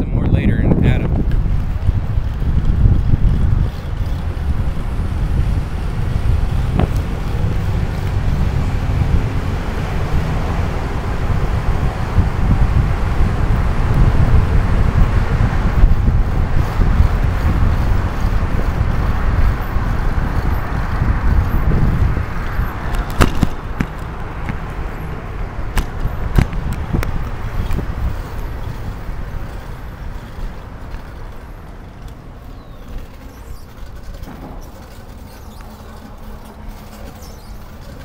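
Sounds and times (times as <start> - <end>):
rolling road noise: 0.0 - 38.0
wind buffeting microphone: 0.0 - 38.0.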